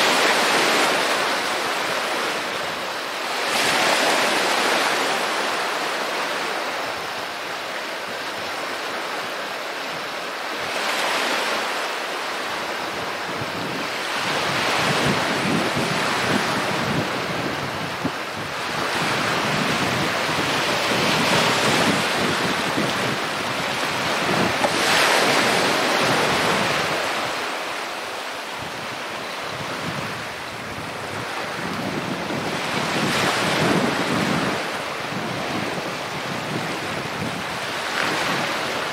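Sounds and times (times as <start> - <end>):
sea waves breaking on pebbly shore: 0.0 - 38.9.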